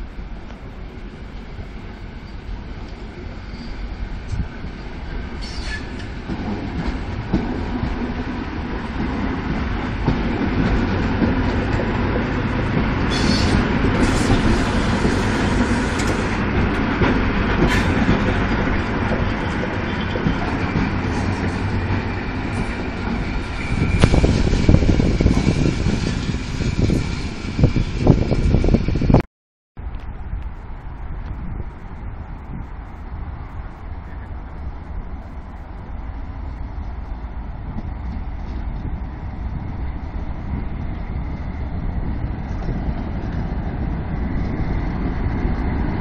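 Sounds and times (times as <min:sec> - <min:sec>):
train wheels rumbling on rail: 0:00.0 - 0:29.2, 0:29.8 - 0:46.0.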